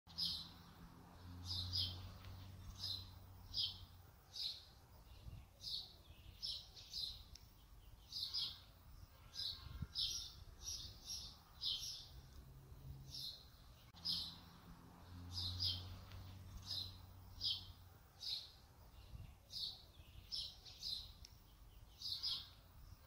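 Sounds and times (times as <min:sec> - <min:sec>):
small songbird chirping: 0:00.1 - 0:23.0.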